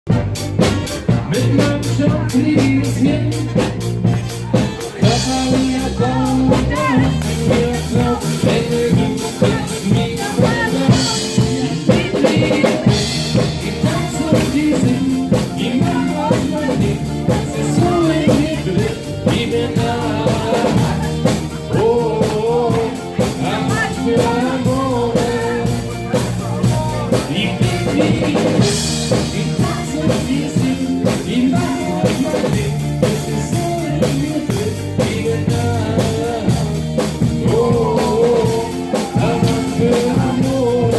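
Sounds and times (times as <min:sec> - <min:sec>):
rock band playing: 0:00.0 - 0:40.9
person singing: 0:00.6 - 0:40.9.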